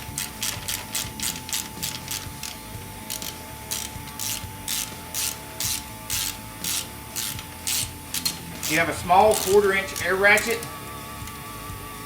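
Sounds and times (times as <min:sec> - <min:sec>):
ratchet wrench clicking: 0:00.0 - 0:10.7.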